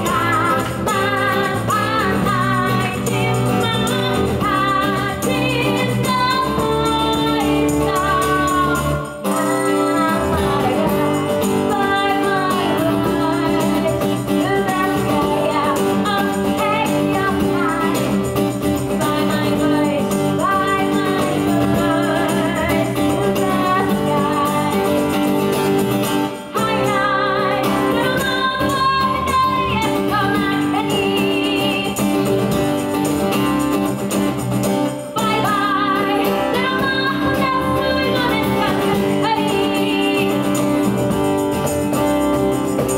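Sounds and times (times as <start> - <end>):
woman singing: 0.0 - 25.6, 26.3 - 32.6, 35.1 - 41.8
electric bass: 0.0 - 34.9, 40.3 - 42.9
tambourine: 0.0 - 42.9.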